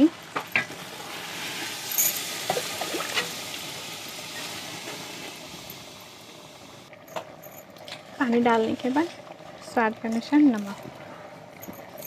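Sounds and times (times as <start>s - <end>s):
water pouring into pot: 0.0s - 12.0s.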